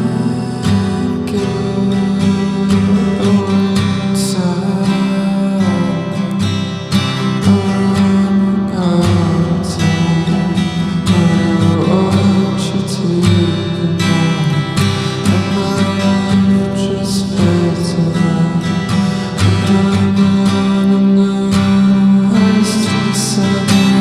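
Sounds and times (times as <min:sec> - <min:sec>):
strummed acoustic guitar song: 0:00.0 - 0:24.0.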